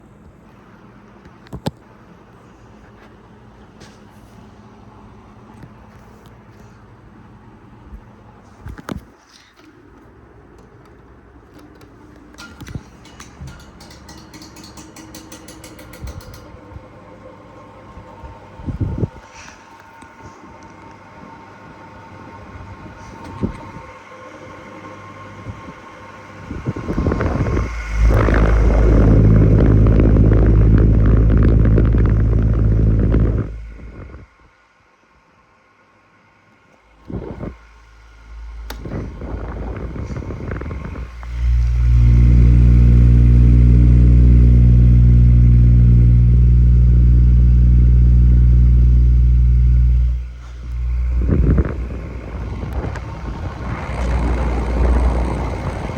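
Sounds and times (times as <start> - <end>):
fan motor humming: 0.0 - 34.4, 36.8 - 55.9.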